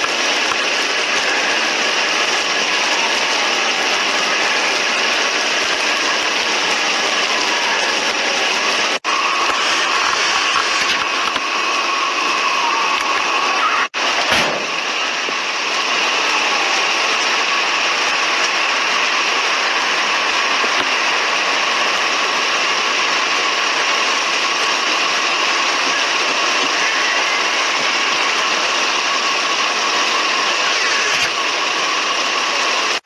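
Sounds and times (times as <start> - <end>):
engine running with high whine: 0.0 - 33.0.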